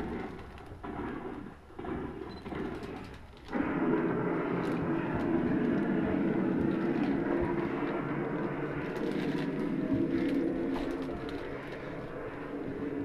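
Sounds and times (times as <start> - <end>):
mechanical drone with hiss: 0.0 - 13.0.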